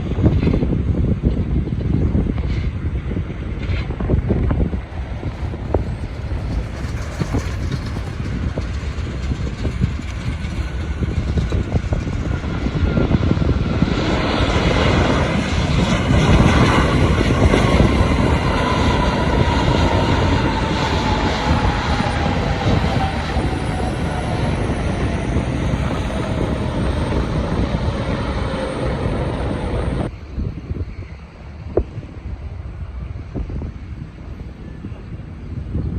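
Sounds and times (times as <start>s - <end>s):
jet airliner passing: 0.0s - 35.9s
jet engine whine falling in pitch: 0.0s - 35.9s.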